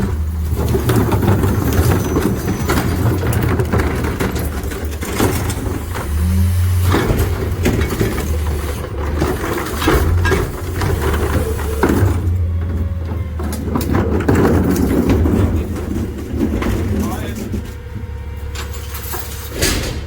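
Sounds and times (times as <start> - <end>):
garbage truck engine rumble: 0.0 - 20.0
metal clanks and knocks: 0.0 - 20.0.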